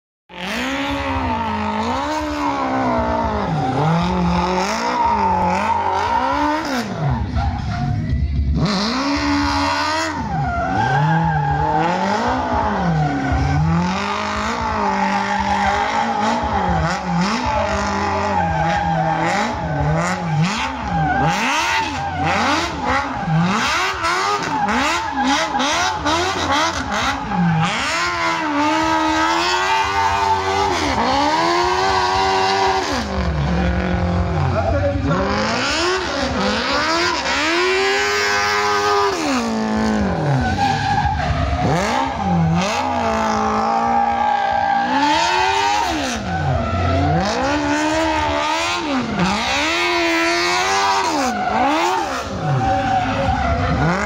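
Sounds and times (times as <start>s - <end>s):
small car engine revving: 0.3s - 54.0s
tyres squealing: 9.0s - 54.0s.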